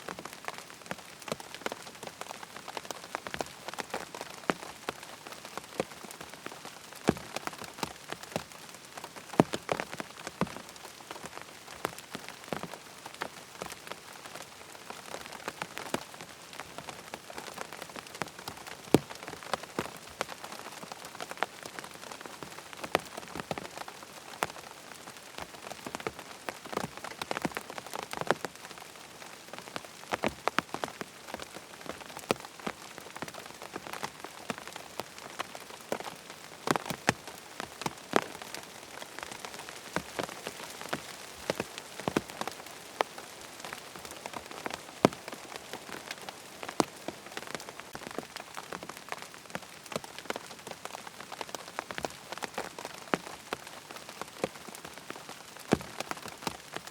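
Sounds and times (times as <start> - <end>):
rain falling on a tent: 0.0 - 56.9.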